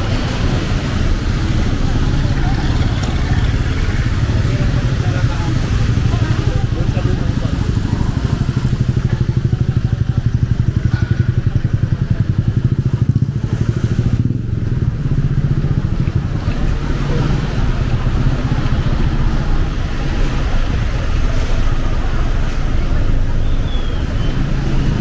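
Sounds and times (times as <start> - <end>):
street noise: 0.0 - 25.0
vehicle engine throbbing: 0.0 - 25.0.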